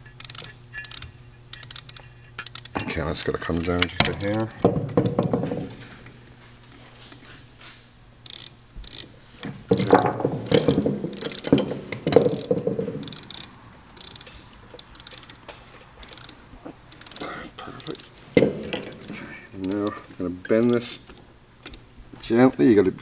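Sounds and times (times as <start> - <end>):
hand tools clicking and scraping: 0.0 - 21.8.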